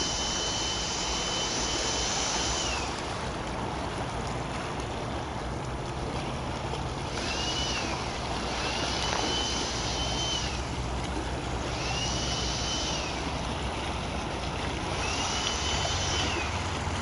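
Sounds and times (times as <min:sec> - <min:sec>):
water lapping: 0:00.0 - 0:17.0.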